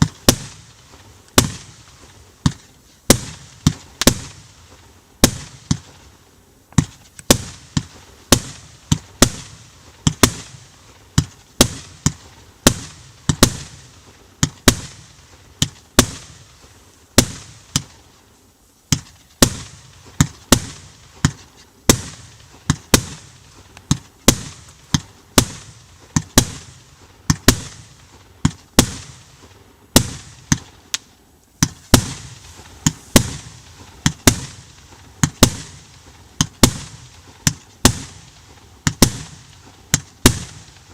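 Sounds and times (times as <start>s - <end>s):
fireworks bangs with echo: 0.0s - 6.2s, 6.8s - 18.1s, 18.9s - 31.0s, 31.6s - 40.9s.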